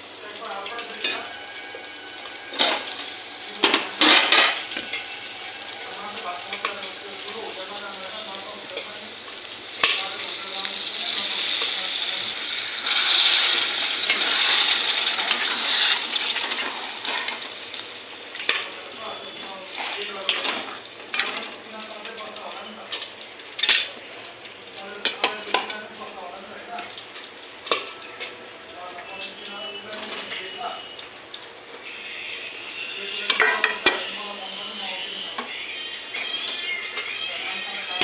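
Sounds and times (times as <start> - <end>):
curry sizzling in a pan: 0.0 - 38.0.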